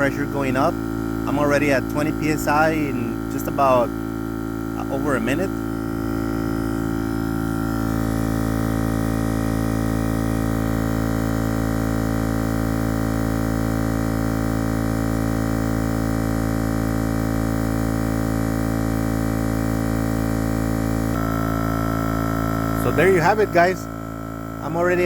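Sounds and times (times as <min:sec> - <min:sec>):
tyre inflator compressor humming: 0:00.0 - 0:25.0.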